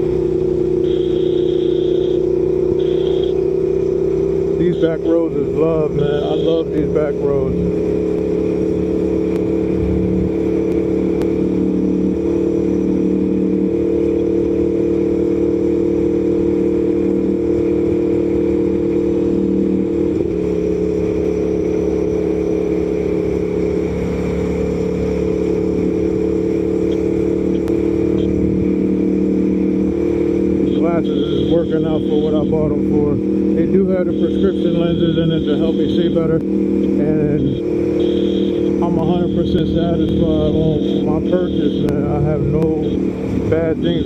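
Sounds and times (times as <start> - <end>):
motorcycle engine cruising: 0.0 - 44.0.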